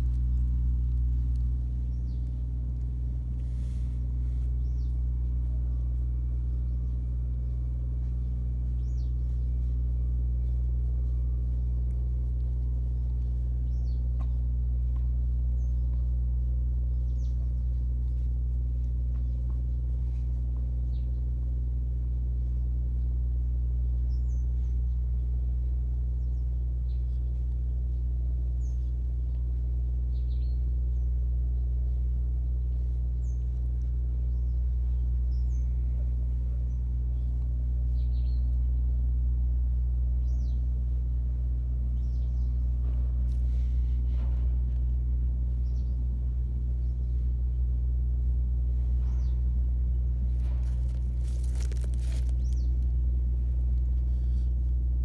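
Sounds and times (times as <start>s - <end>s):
birds chirping: 0.0s - 21.6s, 23.8s - 38.8s, 40.2s - 40.8s, 41.8s - 44.4s, 45.5s - 47.8s, 48.8s - 54.6s.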